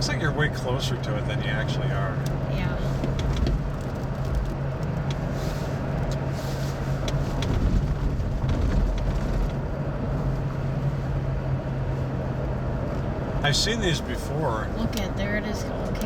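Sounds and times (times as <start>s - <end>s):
car engine hum: 0.0s - 16.0s
road and wind noise: 0.0s - 16.0s.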